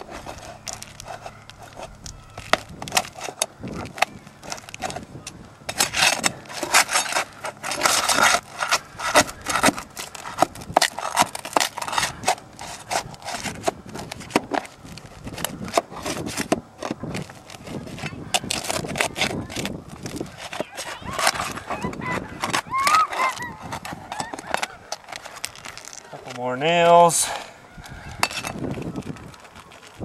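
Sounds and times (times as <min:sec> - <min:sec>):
pry bar scraping shingles: 0:00.0 - 0:30.0.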